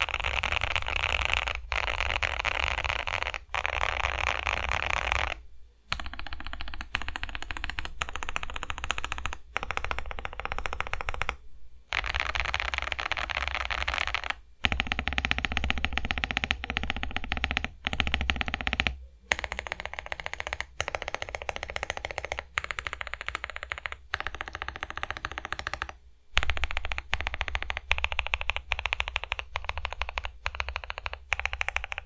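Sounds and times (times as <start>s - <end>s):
fast typing on mechanical keyboard: 0.0s - 32.0s.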